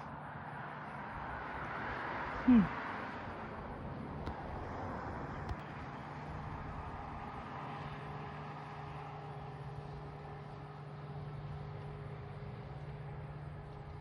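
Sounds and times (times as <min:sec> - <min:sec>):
distant engine drone: 0:00.0 - 0:14.0.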